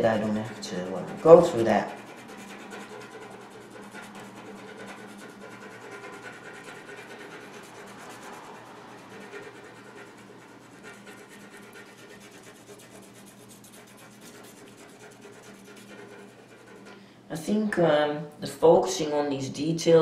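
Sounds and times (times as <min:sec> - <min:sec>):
pencil scratching on paper: 0:00.0 - 0:17.0
faint steady hum: 0:00.0 - 0:20.0.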